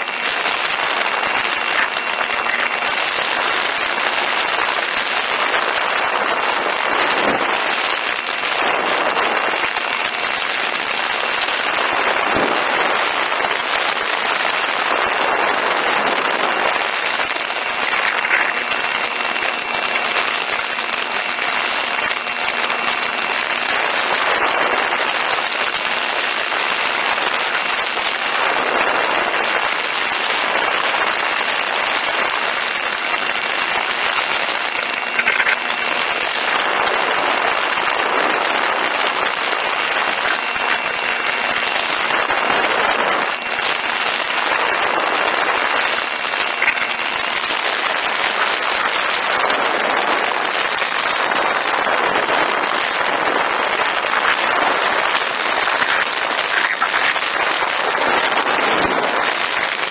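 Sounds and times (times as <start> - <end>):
electric motor and propeller whine: 0.0 - 59.9
wind rush on microphone: 0.0 - 59.9.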